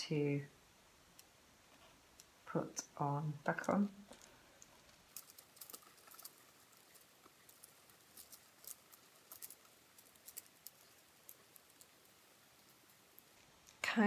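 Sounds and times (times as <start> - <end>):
beaded wire clicking and rustling: 0.8 - 14.0.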